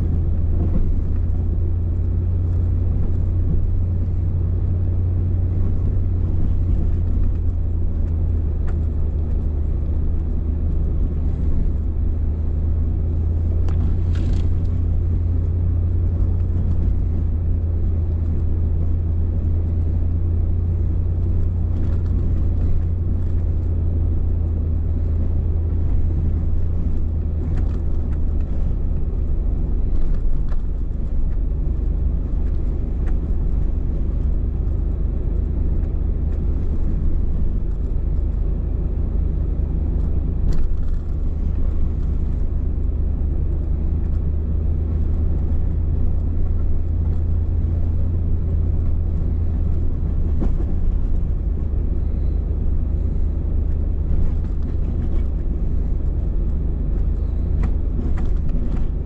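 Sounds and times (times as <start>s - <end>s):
truck engine drone from inside cab: 0.0s - 59.0s.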